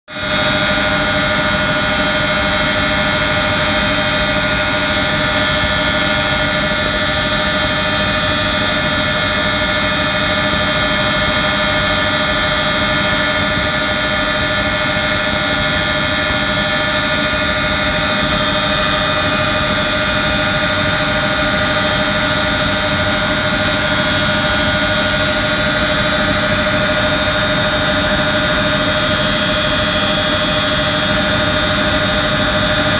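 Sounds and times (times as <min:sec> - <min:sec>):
light aircraft engine drone: 0:00.1 - 0:32.9.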